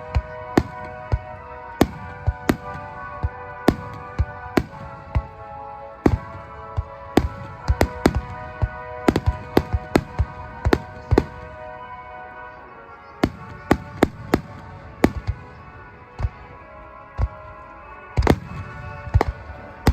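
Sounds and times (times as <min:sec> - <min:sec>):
fireworks bursting with sharp bangs: 0:00.0 - 0:11.9, 0:13.2 - 0:19.9
music with held notes: 0:00.0 - 0:19.9.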